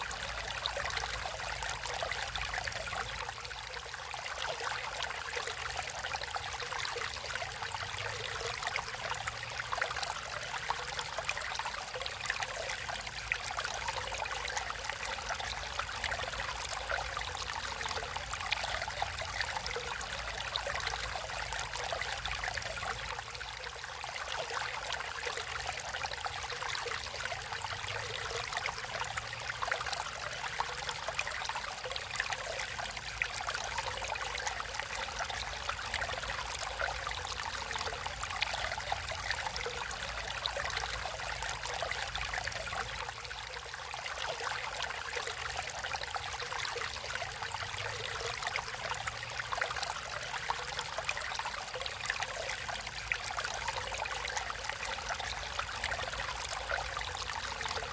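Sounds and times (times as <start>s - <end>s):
stream water flowing: 0.0s - 57.9s.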